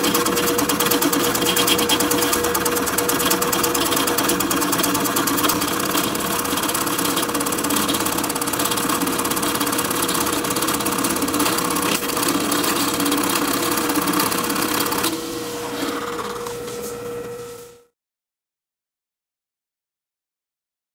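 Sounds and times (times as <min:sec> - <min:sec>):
cutter shaving wood: 0:00.0 - 0:17.5
drill press motor hum: 0:00.0 - 0:17.9.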